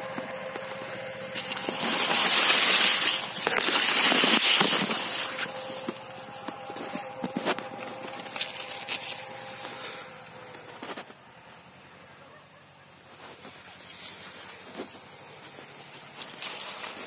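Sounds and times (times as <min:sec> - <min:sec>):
leaves rustling against microphone: 0:00.0 - 0:17.0.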